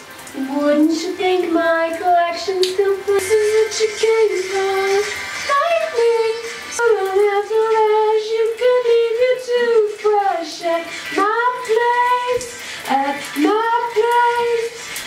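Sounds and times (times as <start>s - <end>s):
shower running: 0.0s - 15.0s
high voice singing wordless notes: 0.3s - 14.8s.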